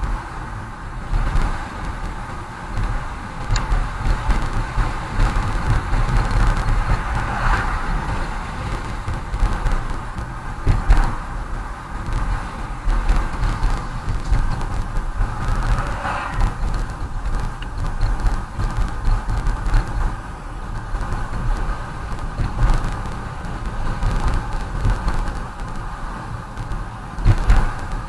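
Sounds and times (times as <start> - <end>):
car road noise rumble: 0.0 - 28.0
road hiss: 0.0 - 28.0.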